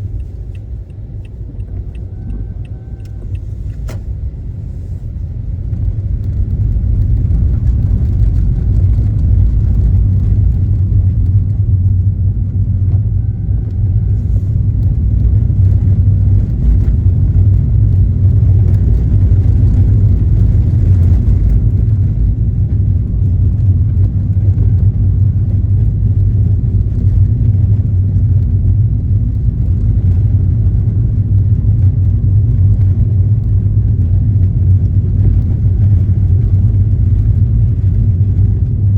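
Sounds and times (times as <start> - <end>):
car driving low rumble: 0.0 - 38.9.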